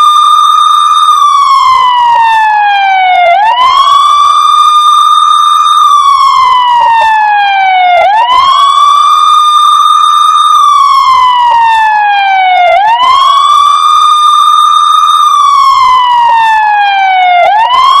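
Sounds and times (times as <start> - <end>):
police siren wailing: 0.0 - 18.0.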